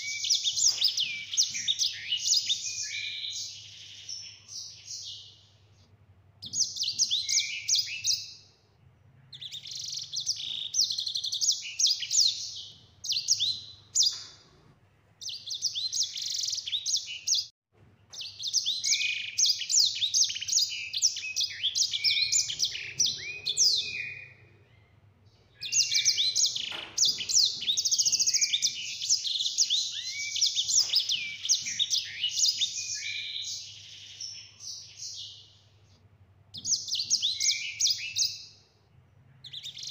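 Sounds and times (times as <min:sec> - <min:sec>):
finch singing trills: 0:00.0 - 0:05.5, 0:06.4 - 0:08.5, 0:09.2 - 0:14.4, 0:18.1 - 0:35.6, 0:36.5 - 0:38.6, 0:39.4 - 0:39.9.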